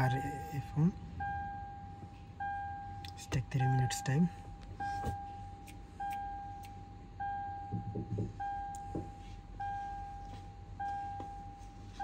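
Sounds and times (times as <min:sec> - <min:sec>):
car warning chime: 0:00.0 - 0:11.8.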